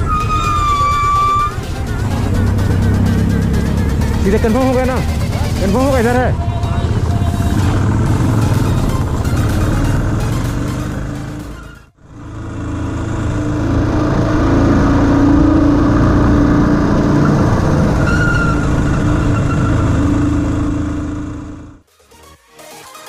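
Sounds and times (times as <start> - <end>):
vehicle engine running: 0.0 - 18.0, 18.6 - 21.9
road and wind noise: 0.0 - 21.8.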